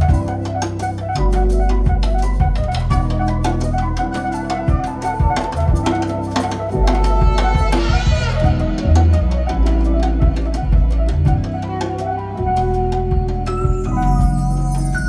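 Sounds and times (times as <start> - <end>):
jazz music over loudspeakers: 0.0 - 15.0.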